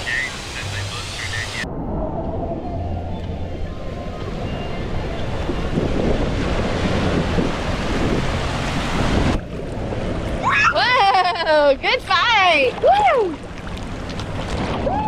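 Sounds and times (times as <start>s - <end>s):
surf rushing and washing in: 0.0s - 15.0s
wind buffeting microphone: 1.6s - 15.0s.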